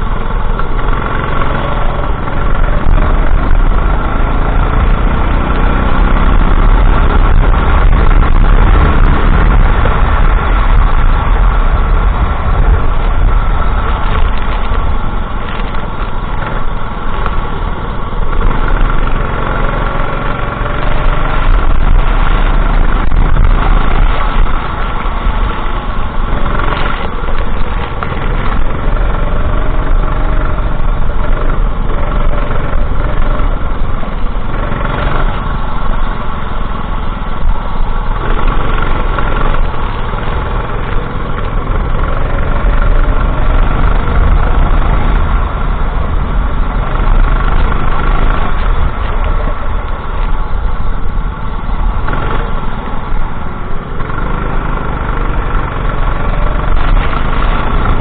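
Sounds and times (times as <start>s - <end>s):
racing kart engine running: 0.0s - 58.0s.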